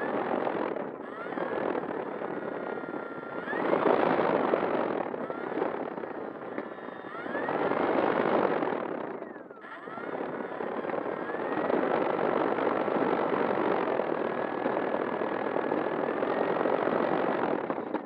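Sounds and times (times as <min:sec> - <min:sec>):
electric motor and propeller whine: 0:00.0 - 0:18.0.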